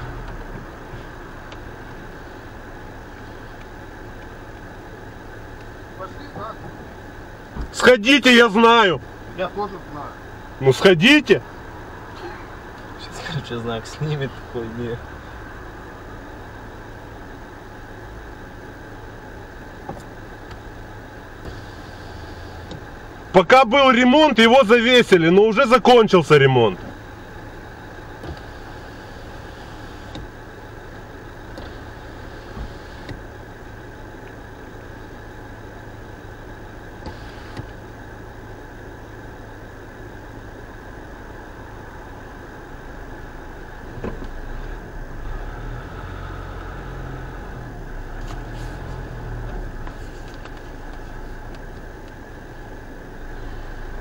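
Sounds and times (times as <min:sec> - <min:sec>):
car engine idling: 0:00.0 - 0:54.0
deeper engine rumble: 0:00.0 - 0:54.0.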